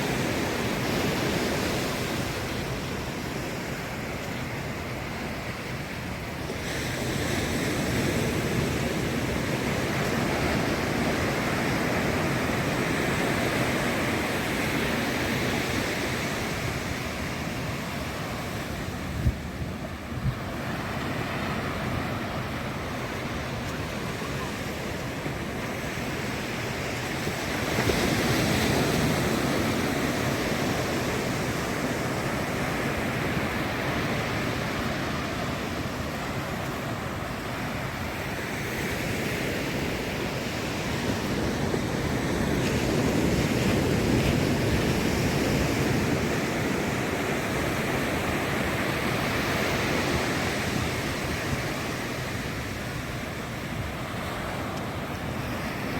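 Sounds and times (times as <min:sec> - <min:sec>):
ocean surf breaking: 0:00.0 - 0:55.9.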